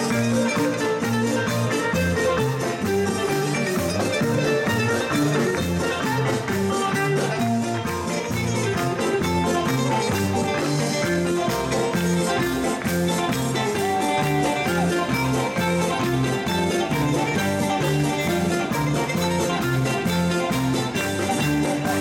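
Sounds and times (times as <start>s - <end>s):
folk dance music with clarinet: 0.0s - 22.0s.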